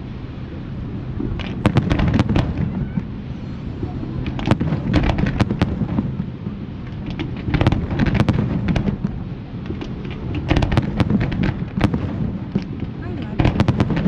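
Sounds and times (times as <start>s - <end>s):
low rumble of booms: 0.0s - 14.0s
fireworks bangs and crackles: 1.2s - 3.2s, 4.2s - 14.0s.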